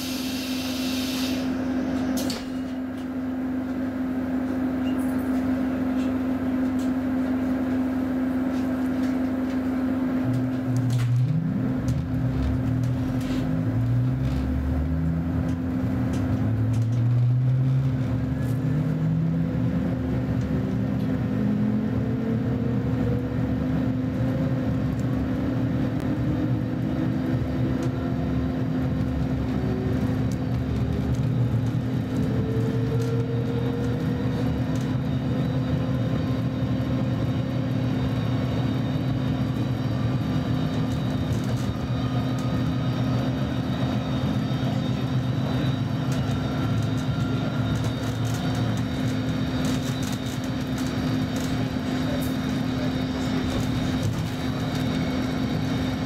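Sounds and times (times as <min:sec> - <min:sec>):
electric train motor whine: 0:00.0 - 0:56.0
wheels rumbling on rails: 0:00.0 - 0:56.0.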